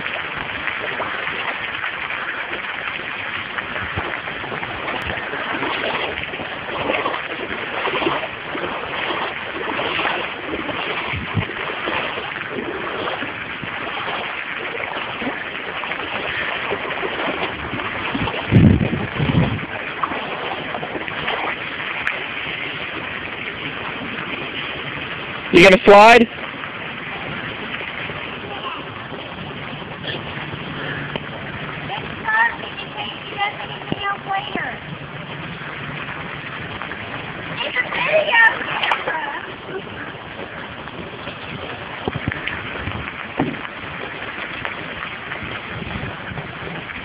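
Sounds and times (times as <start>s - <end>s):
rain falling on water: 0.0s - 47.0s
wind buffeting microphone: 0.0s - 47.0s.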